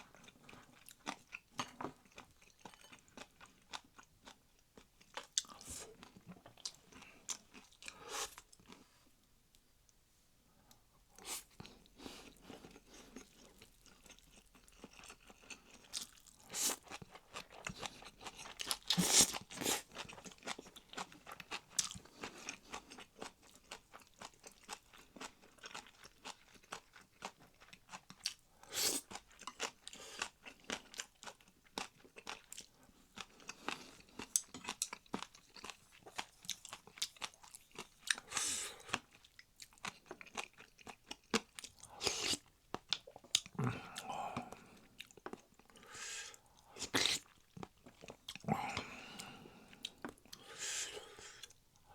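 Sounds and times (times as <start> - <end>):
close chewing with crunches: 0.0 - 8.8, 11.2 - 51.9.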